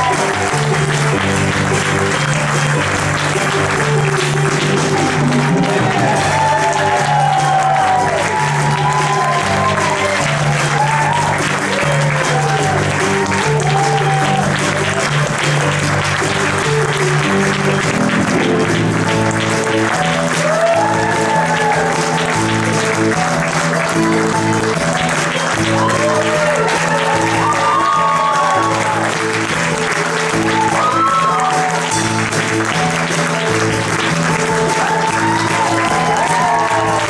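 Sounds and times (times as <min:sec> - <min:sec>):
audience applause: 0:00.0 - 0:37.0
instrumental music with bass line: 0:00.0 - 0:37.0.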